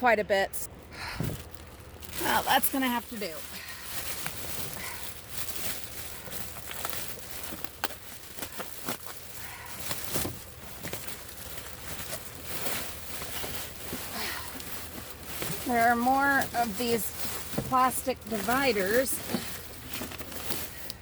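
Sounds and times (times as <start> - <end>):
plastic bags rustling: 0.7 - 21.0
plastic items clicking and knocking: 1.2 - 21.0.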